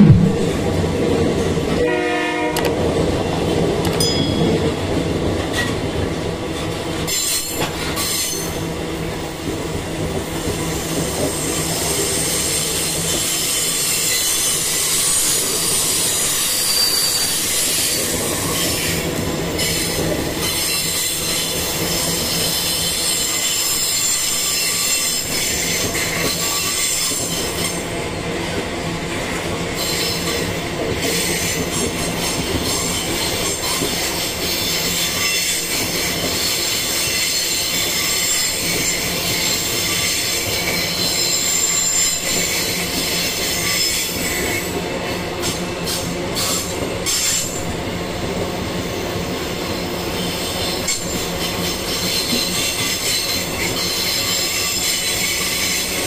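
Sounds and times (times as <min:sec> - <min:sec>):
train wheels squealing on rails: 0:03.9 - 0:56.0.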